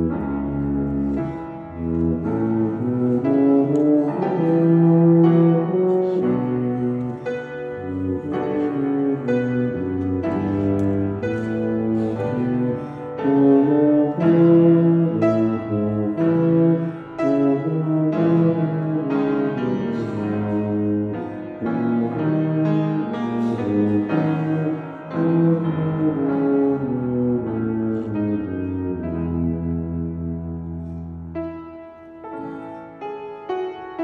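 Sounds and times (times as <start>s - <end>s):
piano accompaniment: 0.0s - 34.0s
tuba melody: 0.0s - 34.0s.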